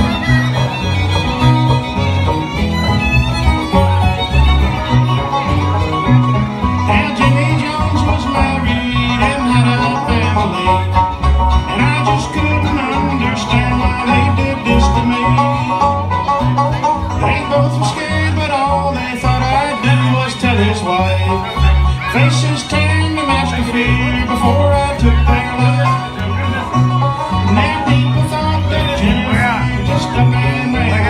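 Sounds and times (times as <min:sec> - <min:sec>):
fiddle melody: 0:00.0 - 0:31.0
pulsing bass line: 0:00.0 - 0:31.0
strummed acoustic guitar: 0:00.0 - 0:31.0.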